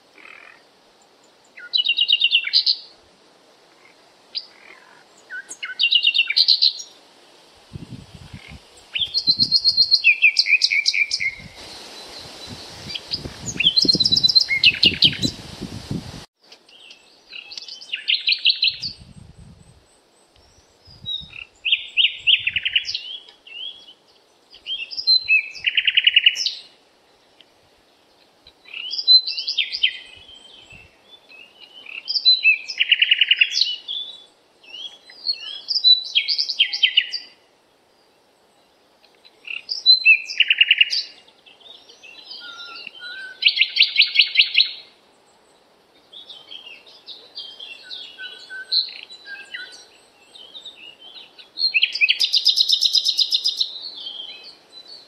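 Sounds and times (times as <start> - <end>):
faint steady hiss: 0.0 - 55.0
birds chirping and trilling: 0.1 - 3.0, 3.7 - 7.0, 8.2 - 15.5, 16.7 - 55.0.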